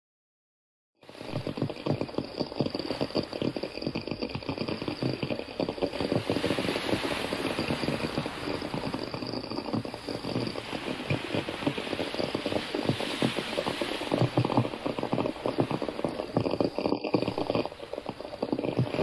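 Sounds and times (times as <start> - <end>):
stream burbling over rocks: 1.2 - 19.0.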